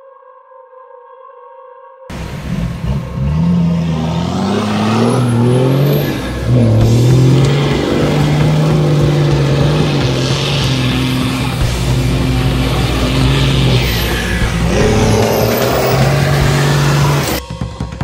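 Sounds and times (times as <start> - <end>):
vehicle engine revving: 2.1 - 17.4.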